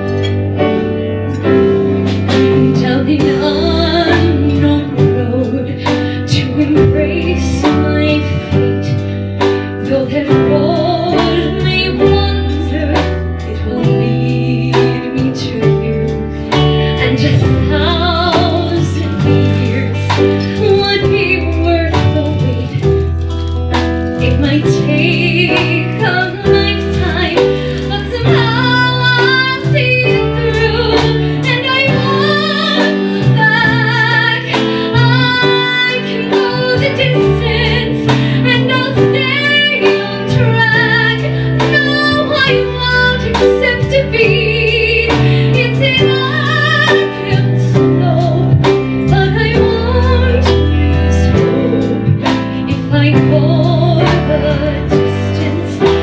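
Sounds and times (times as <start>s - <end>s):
live band playing: 0.0s - 56.0s
woman singing a ballad: 2.0s - 56.0s.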